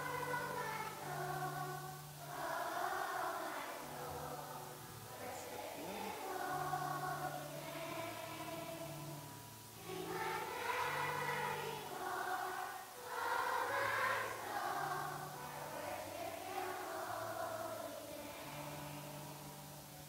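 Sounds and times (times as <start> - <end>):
children's choir singing: 0.0 - 20.0
low held accompaniment notes: 0.0 - 20.0.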